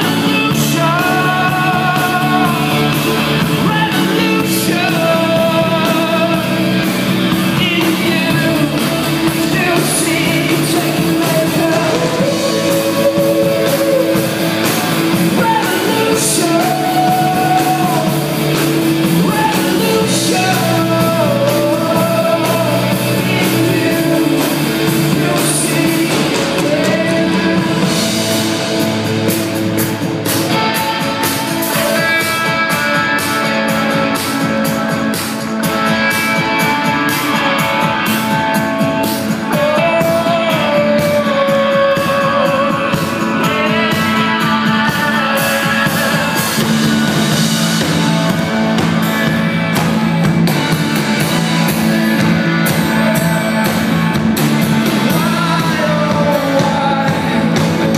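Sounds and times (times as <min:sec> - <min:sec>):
bass guitar: 0:00.0 - 0:57.9
drums: 0:00.0 - 0:57.9
electric guitars: 0:00.0 - 0:57.9
person singing: 0:00.0 - 0:57.9.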